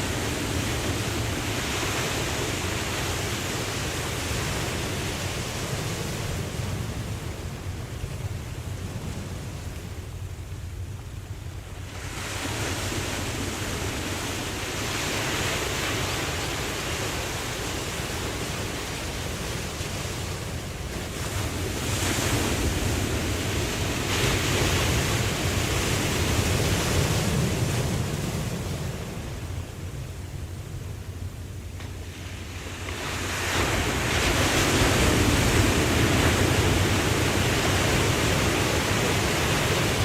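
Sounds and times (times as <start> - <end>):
ocean waves washing in: 0.0 - 40.0.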